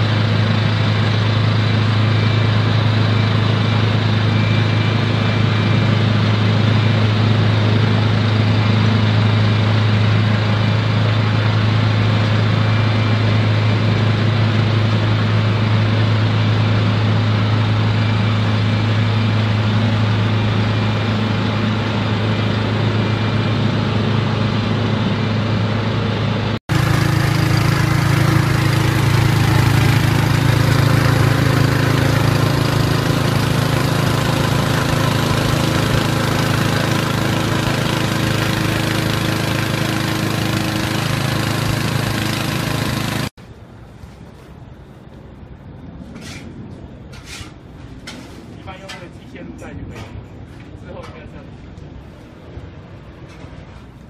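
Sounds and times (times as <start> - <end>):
machinery low hum: 0.0 - 54.0.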